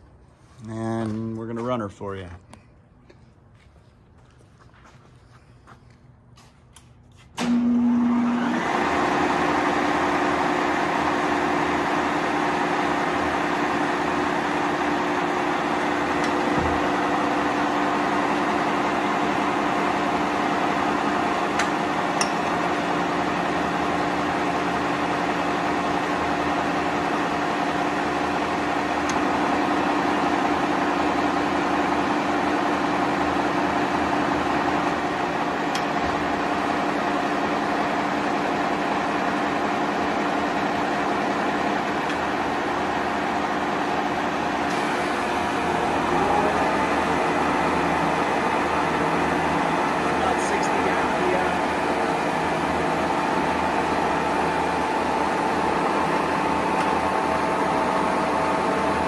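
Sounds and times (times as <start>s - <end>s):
lathe mechanical hum: 6.7s - 59.0s.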